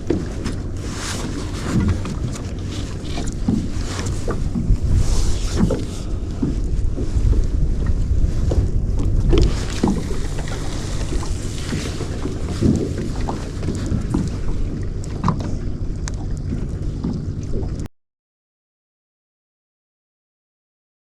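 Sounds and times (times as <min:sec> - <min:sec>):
boat engine rumbling: 0:00.0 - 0:17.9
light knocks and splashes: 0:00.0 - 0:17.9
wind buffeting microphone: 0:00.0 - 0:17.9.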